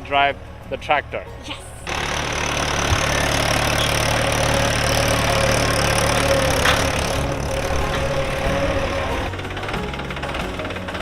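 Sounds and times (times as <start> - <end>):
engine idling: 1.8 - 11.0.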